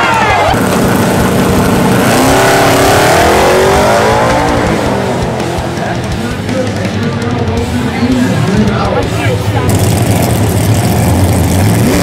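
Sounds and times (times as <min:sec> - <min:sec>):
race car engine at full throttle: 0:00.0 - 0:12.0.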